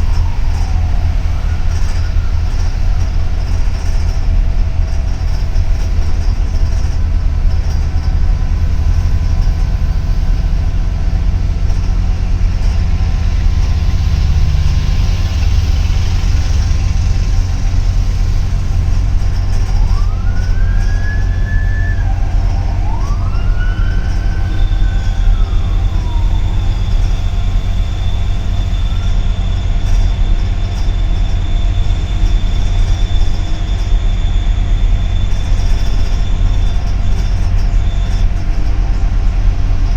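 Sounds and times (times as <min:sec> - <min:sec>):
high rising wails: 0:00.0 - 0:03.9, 0:07.6 - 0:39.9
bus engine rumble: 0:00.0 - 0:39.9
thin steady high tone: 0:04.9 - 0:39.9.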